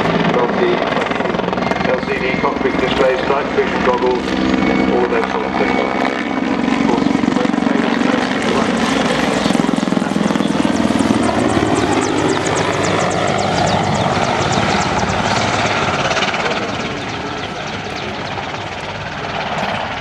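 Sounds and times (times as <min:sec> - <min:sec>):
helicopter engines and rotor chop: 0:00.0 - 0:20.0.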